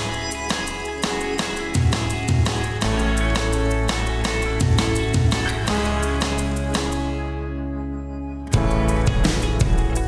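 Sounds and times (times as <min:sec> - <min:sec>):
background music with strong bass: 0:00.0 - 0:10.0.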